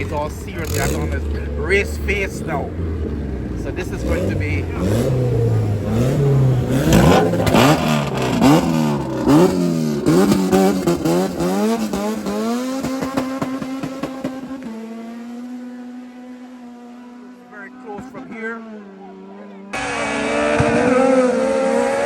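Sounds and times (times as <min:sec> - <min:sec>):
drag cars accelerating: 0:00.0 - 0:22.0.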